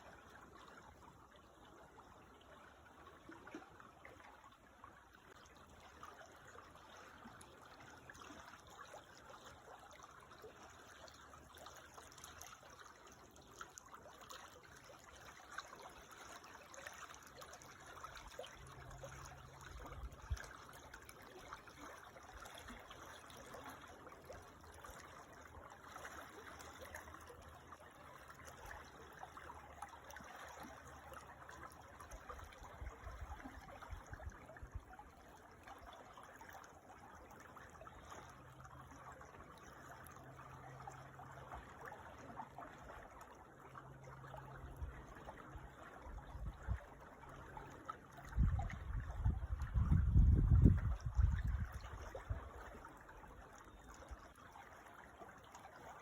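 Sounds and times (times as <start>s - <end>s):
creek water trickling: 0.0s - 56.0s.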